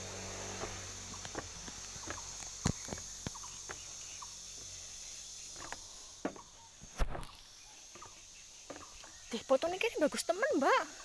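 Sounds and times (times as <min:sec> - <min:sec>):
high-pitched insect chorus: 0:00.0 - 0:11.0
footsteps on outdoor stairs: 0:00.5 - 0:09.5.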